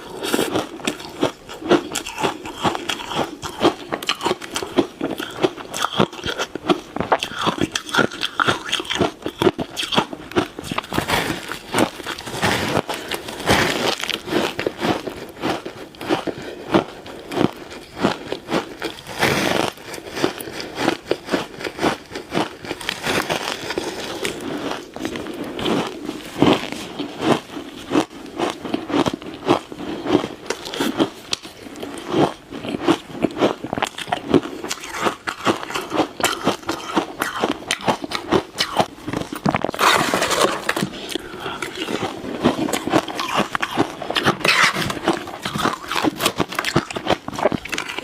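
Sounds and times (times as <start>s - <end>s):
ice crunching while chewed: 0.0s - 48.0s.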